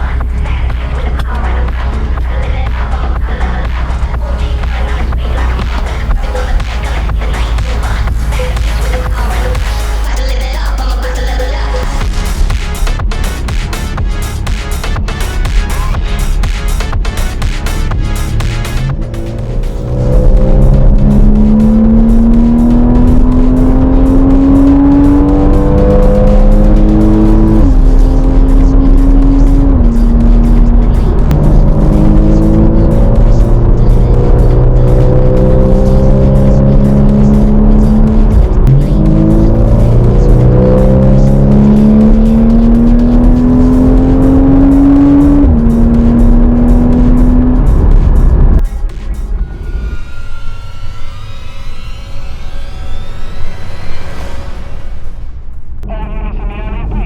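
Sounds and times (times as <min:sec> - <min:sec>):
electronic music with steady beat: 0:00.0 - 0:54.8
car engine accelerating: 0:00.0 - 0:57.0.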